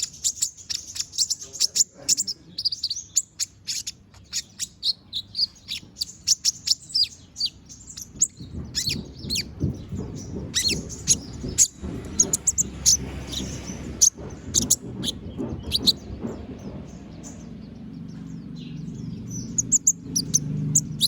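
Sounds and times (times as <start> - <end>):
bird singing high chirps: 0.0 - 21.0.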